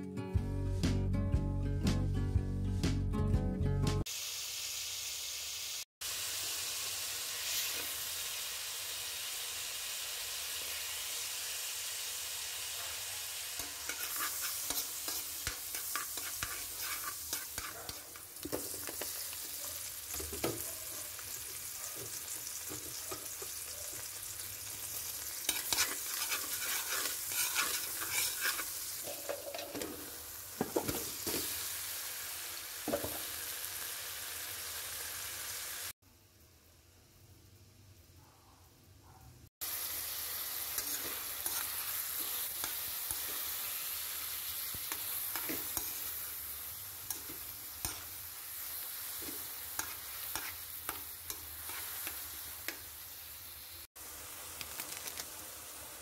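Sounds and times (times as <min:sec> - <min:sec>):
butter sizzling in a pan: 0:04.0 - 0:37.8, 0:39.6 - 0:56.0
food crackling in a pan: 0:04.1 - 0:37.8, 0:39.6 - 0:56.0.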